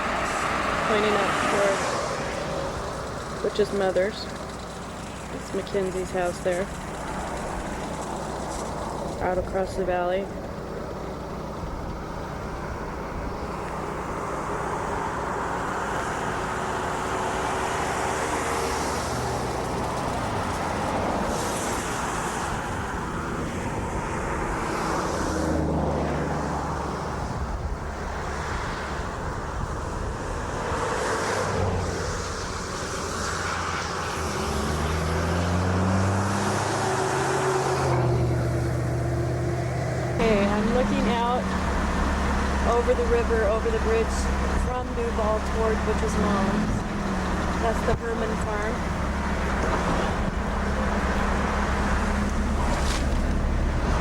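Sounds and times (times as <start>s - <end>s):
road traffic noise: 0.0s - 54.0s
vehicle engine accelerating: 0.0s - 54.0s.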